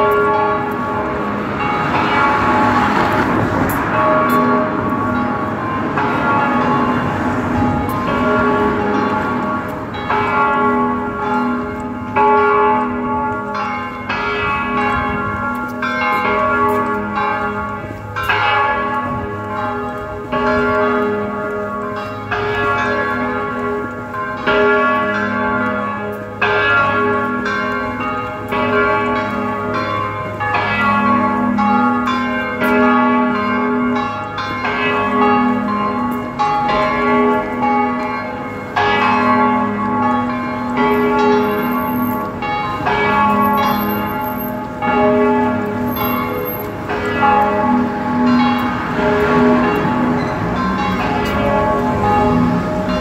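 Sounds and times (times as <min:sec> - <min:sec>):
church bells pealing: 0:00.0 - 0:53.0.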